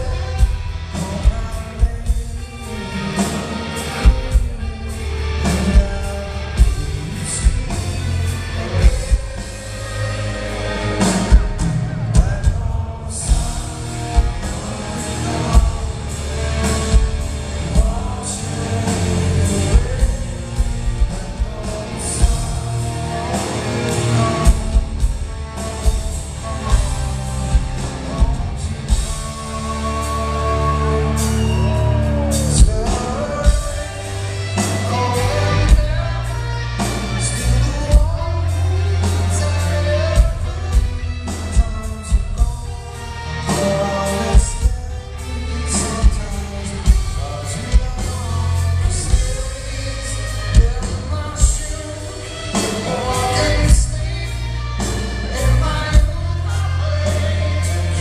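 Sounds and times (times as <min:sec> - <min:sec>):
drums: 0:00.0 - 0:58.0
rock music with singing: 0:00.0 - 0:58.0.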